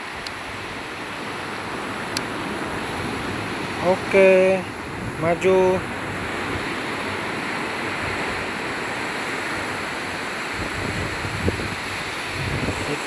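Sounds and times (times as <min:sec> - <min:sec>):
ocean surf: 0:00.0 - 0:13.0
wind on microphone: 0:00.0 - 0:13.0.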